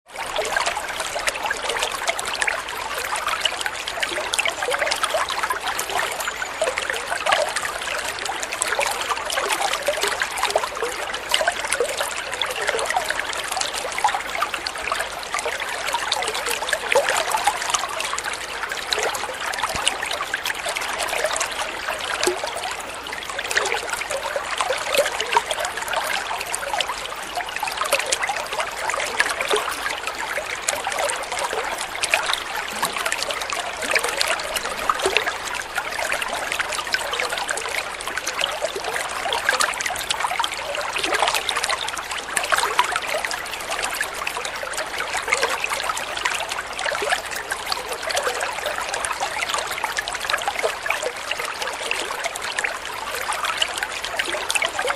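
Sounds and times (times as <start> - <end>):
water trickling over stones: 0.1 - 54.9.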